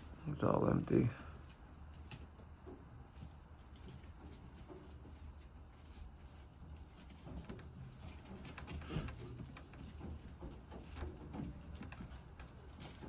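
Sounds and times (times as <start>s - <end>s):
pigeons tapping and rustling: 0.0s - 13.0s.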